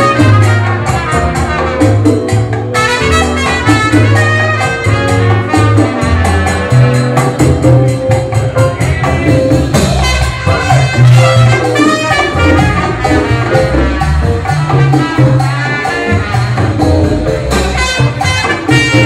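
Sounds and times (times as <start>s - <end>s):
salsa band playing: 0.0s - 19.0s.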